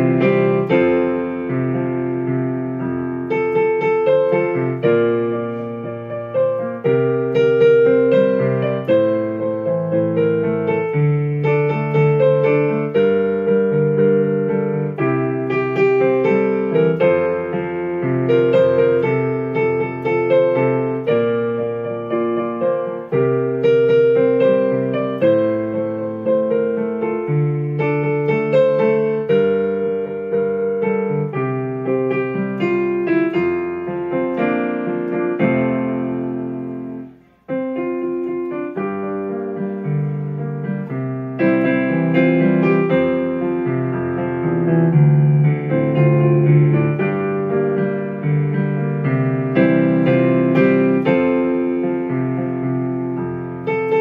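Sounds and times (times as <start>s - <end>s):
digital piano playing chords: 0.0s - 54.0s.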